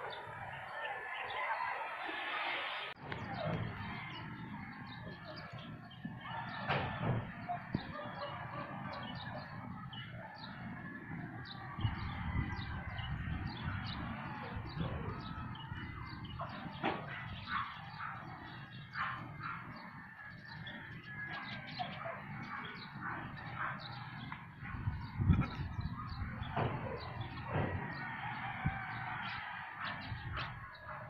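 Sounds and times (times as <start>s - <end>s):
chickens chirping: 0.0s - 31.0s.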